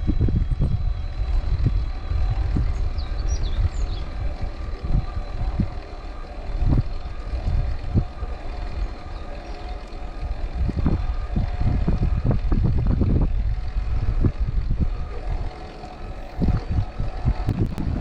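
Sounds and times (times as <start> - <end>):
faint steady hum: 0.0 - 18.0
low rolling rumble: 0.0 - 18.0
wind buffeting microphone: 0.0 - 18.0.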